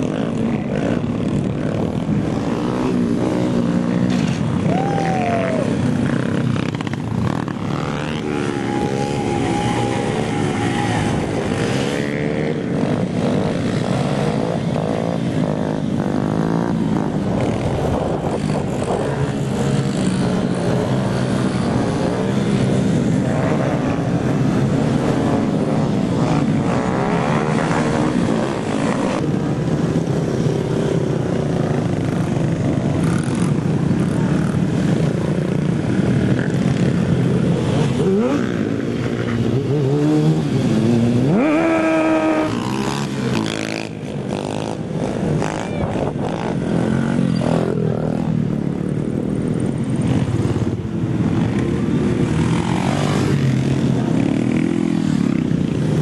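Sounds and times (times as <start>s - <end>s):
small motorcycle engines revving: 0.0s - 56.0s.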